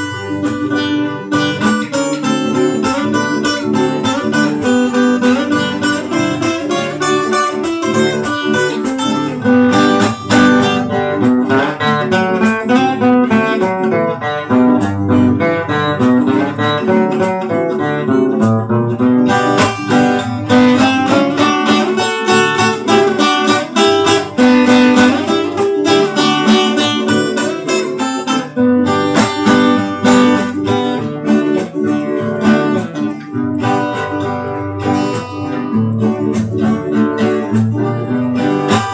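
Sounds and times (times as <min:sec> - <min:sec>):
acoustic guitars playing: 0:00.0 - 0:38.9.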